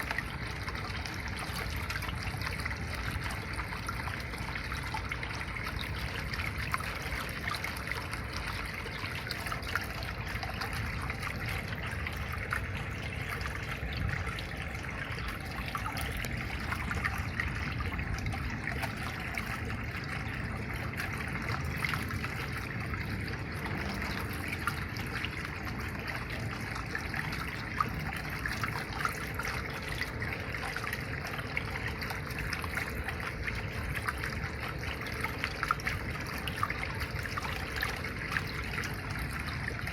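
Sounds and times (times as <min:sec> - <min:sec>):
small water splashes: 0:00.0 - 0:39.9
water trickling: 0:00.0 - 0:39.9.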